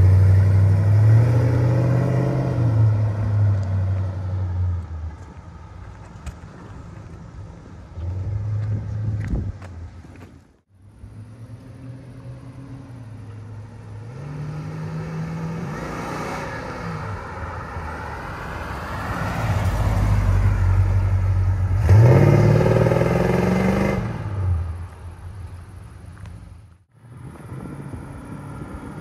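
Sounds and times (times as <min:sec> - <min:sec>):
car engine passing and revving: 0:00.0 - 0:05.8, 0:06.8 - 0:10.0, 0:10.8 - 0:25.4, 0:26.9 - 0:29.0.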